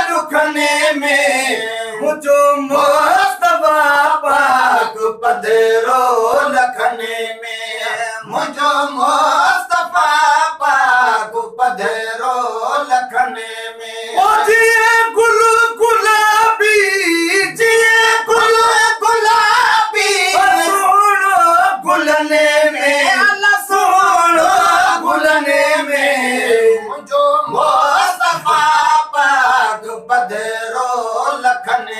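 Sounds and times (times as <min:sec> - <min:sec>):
men singing a prayer: 0:00.0 - 0:31.9.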